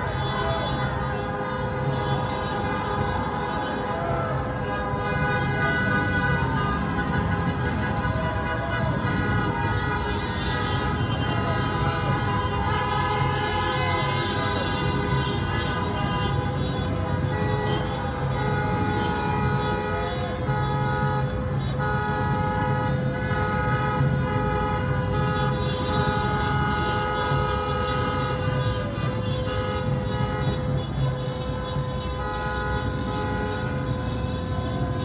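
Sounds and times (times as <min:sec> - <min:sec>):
car horns honking: 0:00.0 - 0:35.0
low traffic rumble: 0:00.0 - 0:35.0.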